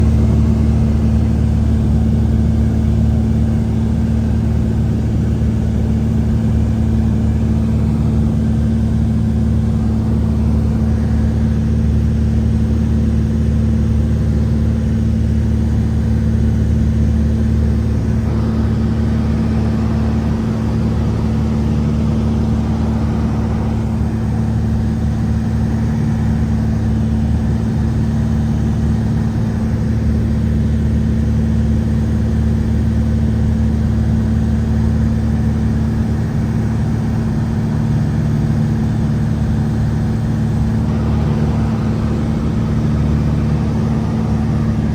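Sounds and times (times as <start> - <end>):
engine low hum: 0.0 - 44.9.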